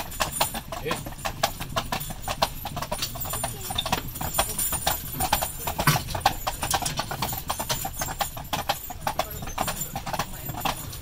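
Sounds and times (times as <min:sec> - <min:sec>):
horse hooves on wet pavement: 0:00.0 - 0:11.0.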